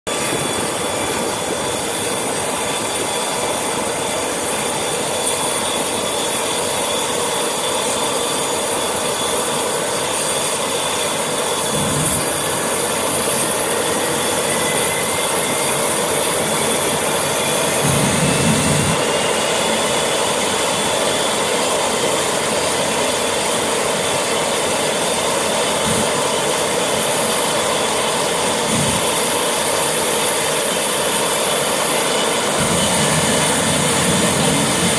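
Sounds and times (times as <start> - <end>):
jet engine whine: 0.0 - 34.9
turbofan spooling up: 0.1 - 34.9.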